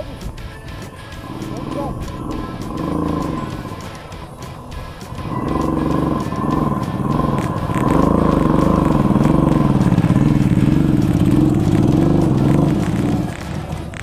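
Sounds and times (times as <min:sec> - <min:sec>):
motorcycle engine labouring: 0:00.0 - 0:14.0.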